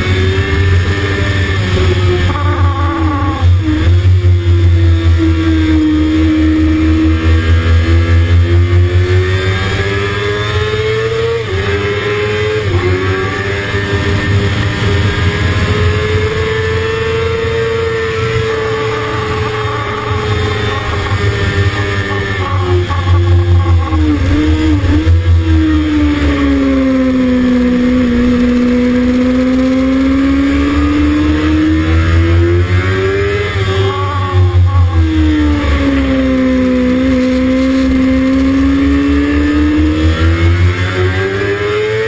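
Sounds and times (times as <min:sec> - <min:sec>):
motorcycle engine at full throttle: 0:00.0 - 0:42.0.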